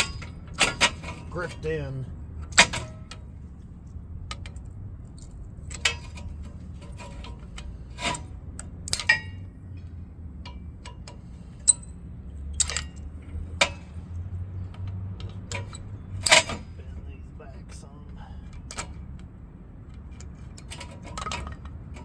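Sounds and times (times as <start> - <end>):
metallic clicks and knocks: 0.0 - 1.6, 2.4 - 3.3, 3.9 - 16.8, 18.5 - 22.0.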